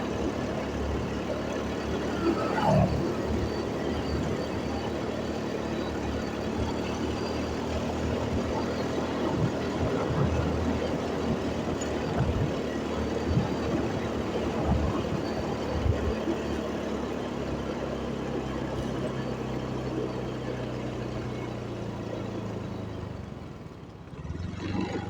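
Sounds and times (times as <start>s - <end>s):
motorcycle engine hum: 0.0s - 25.0s.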